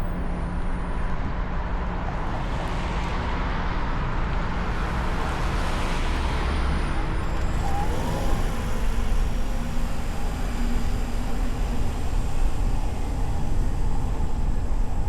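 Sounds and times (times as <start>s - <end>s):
car engine and tyre rumble: 0.0s - 15.0s
surrounding traffic: 0.0s - 15.0s.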